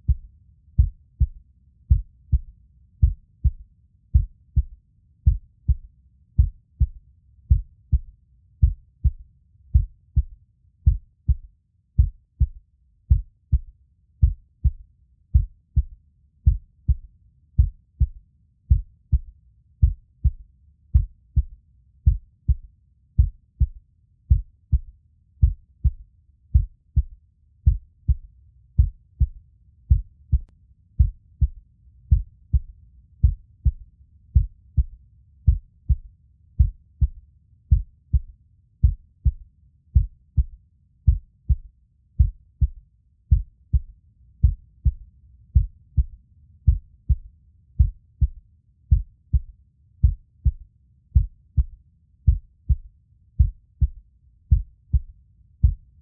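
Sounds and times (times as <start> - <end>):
heartbeat thumps: 0.0 - 33.8, 34.4 - 39.4, 40.0 - 45.0, 45.6 - 50.6, 51.2 - 56.0.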